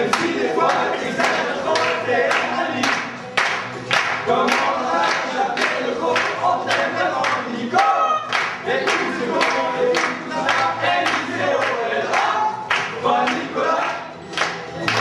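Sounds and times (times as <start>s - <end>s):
claps or percussion beat: 0.0s - 15.0s
group singing: 0.0s - 15.0s.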